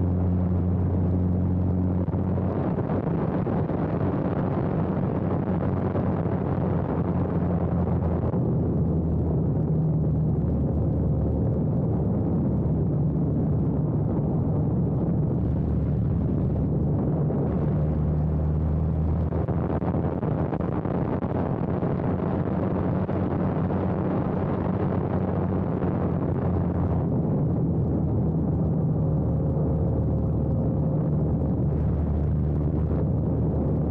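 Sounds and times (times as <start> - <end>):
wind rushing over airframe: 0.0 - 33.9.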